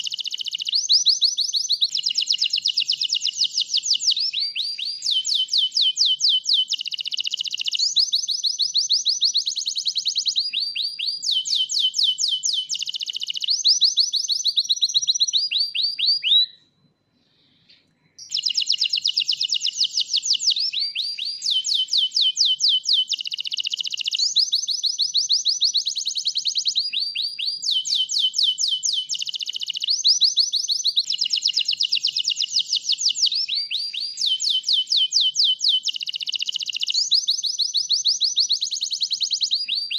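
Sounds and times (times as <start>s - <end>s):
canary singing trills: 0.0s - 16.7s, 17.8s - 39.9s.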